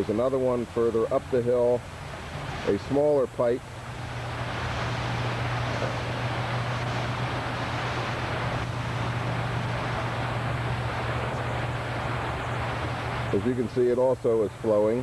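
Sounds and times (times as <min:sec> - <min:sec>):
constant low hum: 0:00.0 - 0:15.0
stormwater rushing down a ditch: 0:00.0 - 0:15.0.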